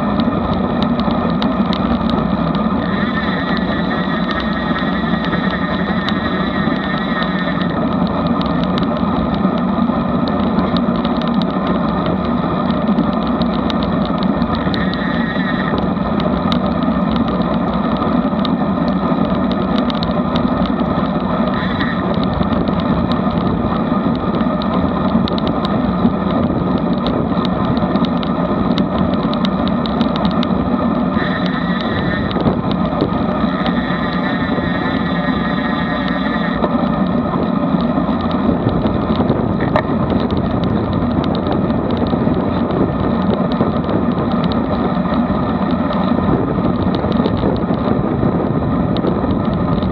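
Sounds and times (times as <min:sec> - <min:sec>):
bike tyre noise: 0:00.0 - 0:49.9
wind on microphone: 0:00.0 - 0:49.9.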